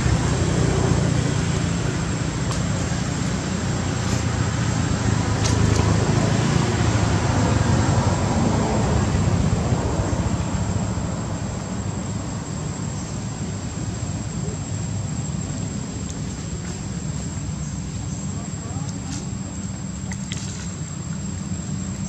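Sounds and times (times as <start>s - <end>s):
low motor rumble: 0.0s - 22.0s.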